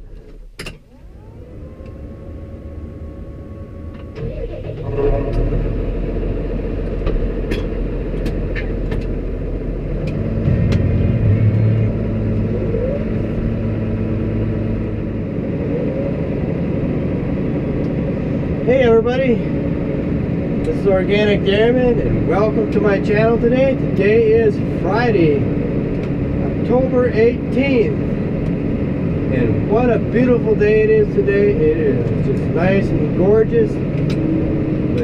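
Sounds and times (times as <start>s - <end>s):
deeper hum: 0.0s - 35.0s
engine running: 0.0s - 35.0s
rising whine: 0.9s - 35.0s.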